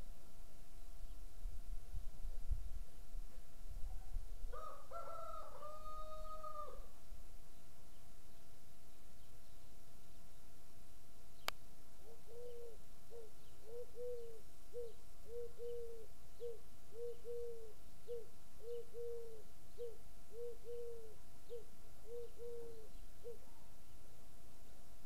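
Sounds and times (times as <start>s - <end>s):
faint high chirps of small birds: 0.0s - 25.0s.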